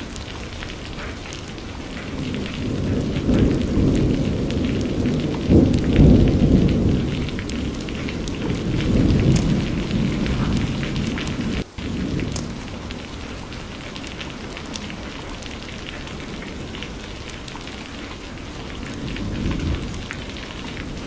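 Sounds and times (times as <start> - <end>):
rain pattering: 0.0 - 21.0
thunder rumbling: 0.0 - 21.0.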